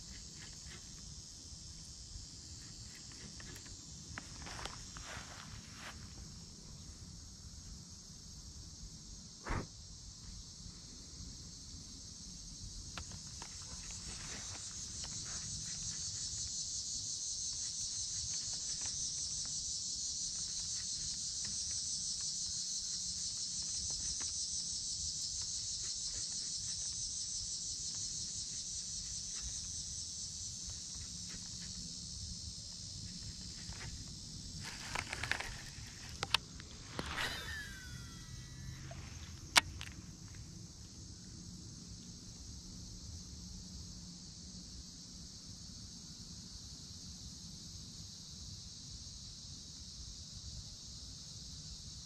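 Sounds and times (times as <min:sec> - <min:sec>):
insect chorus: 0:00.0 - 0:52.0.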